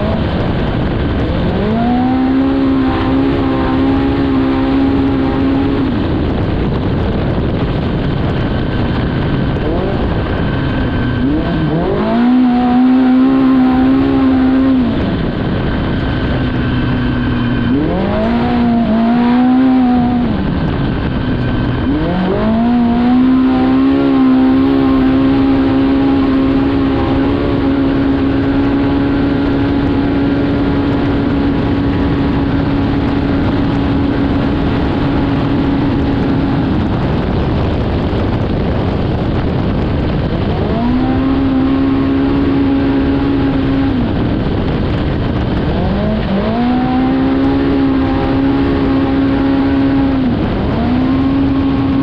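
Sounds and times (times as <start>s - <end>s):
engine revving: 0.0s - 52.0s
wind and tyre noise: 0.0s - 52.0s.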